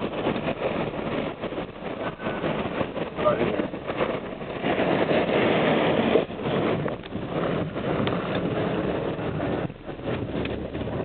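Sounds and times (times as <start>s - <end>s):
moving car rumble: 0.0s - 11.0s
wind buffeting microphone: 0.0s - 11.0s.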